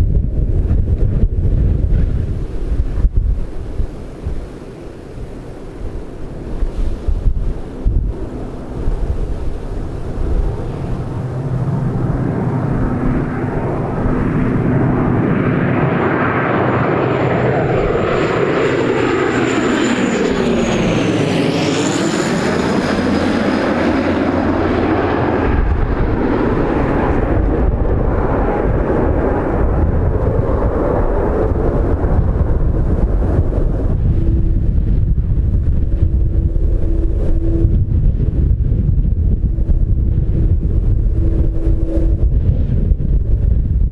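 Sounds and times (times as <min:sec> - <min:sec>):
high engine whine: 0:00.0 - 0:43.9
turboprop aircraft droning: 0:00.0 - 0:43.9
wind rumble on microphone: 0:00.0 - 0:43.9.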